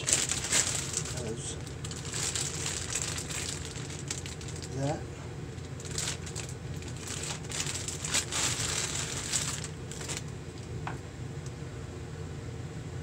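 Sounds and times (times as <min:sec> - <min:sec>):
plastic bag crinkling: 0:00.0 - 0:10.7
steady low hum: 0:00.0 - 0:13.0.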